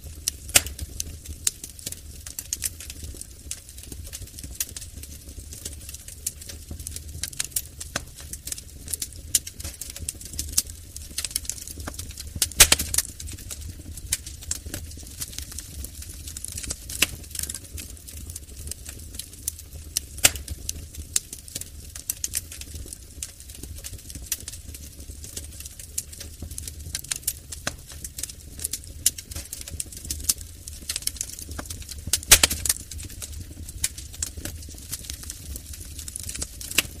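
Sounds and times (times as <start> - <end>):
fire crackling and popping: 0.0 - 37.0.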